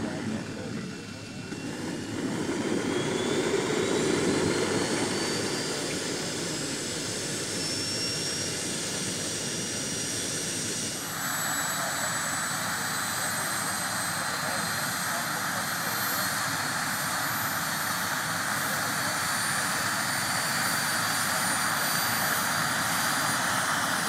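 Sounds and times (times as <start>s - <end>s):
gas turbine engine whine and hiss: 0.0s - 24.0s.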